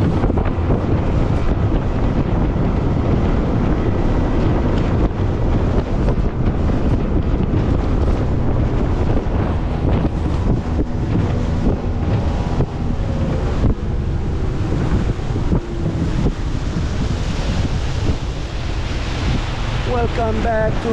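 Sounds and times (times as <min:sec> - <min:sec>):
water splashing against hull: 0:00.0 - 0:20.9
wind buffeting microphone: 0:00.0 - 0:20.9.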